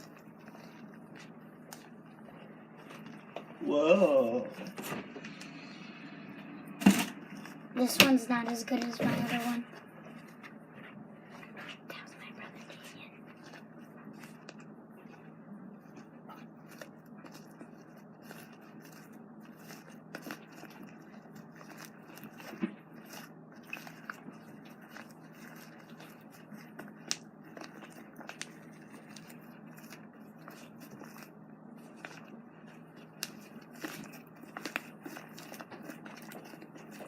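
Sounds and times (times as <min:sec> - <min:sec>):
slime squishing and crackling: 0:00.0 - 0:04.8, 0:06.6 - 0:37.0
steady low hum: 0:00.0 - 0:37.0.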